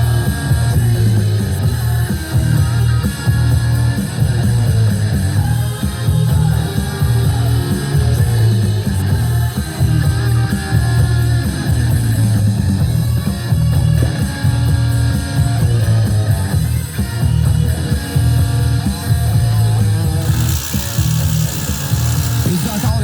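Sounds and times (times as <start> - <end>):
classic rock song on radio: 0.0 - 20.4
drums: 0.0 - 23.0.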